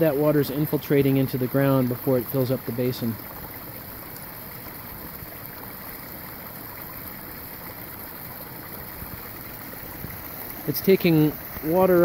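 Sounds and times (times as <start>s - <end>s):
water pouring over rocks: 0.0s - 12.0s.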